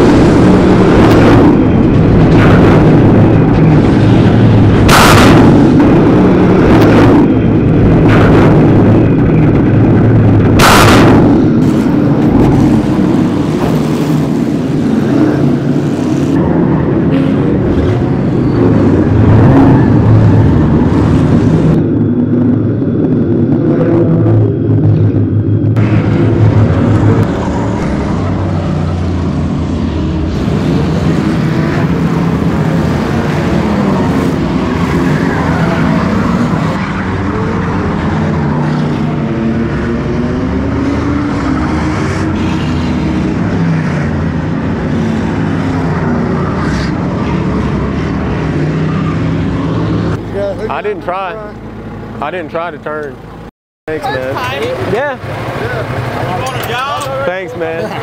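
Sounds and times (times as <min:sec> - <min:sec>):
cars passing: 0:00.0 - 0:58.0
race car engines revving: 0:00.0 - 0:58.0.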